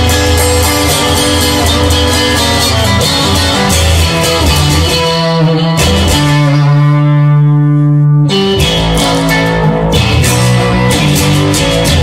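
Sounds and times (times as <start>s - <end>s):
guitar chord ringing: 0.0s - 12.0s
guitar strumming: 0.0s - 12.0s.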